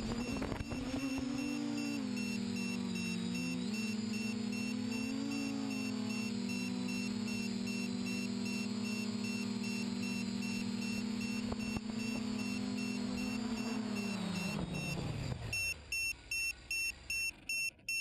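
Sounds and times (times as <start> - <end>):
quadcopter propellers whining: 0.0 - 18.0.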